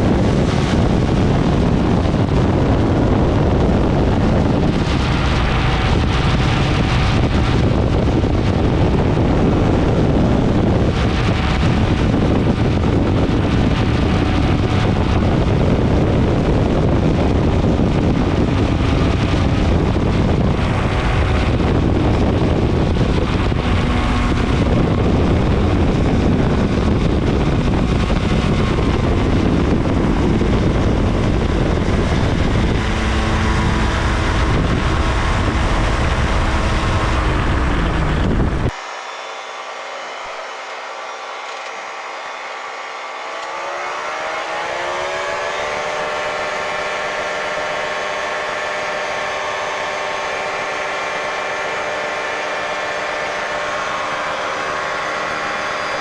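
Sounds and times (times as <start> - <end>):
wind buffeting microphone: 0.0 - 38.8, 43.1 - 56.0
ultralight aircraft engine: 0.0 - 56.0.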